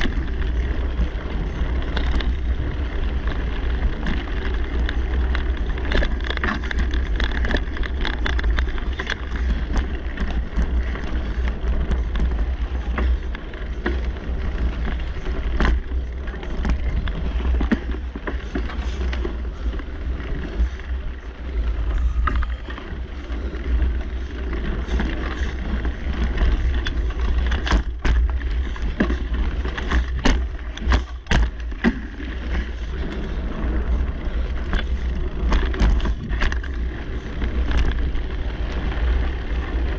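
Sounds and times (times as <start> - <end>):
bike knocking and rattling: 0.0 - 39.9
bike tyres on dirt: 0.0 - 39.9
wind rumble on microphone: 0.0 - 39.9.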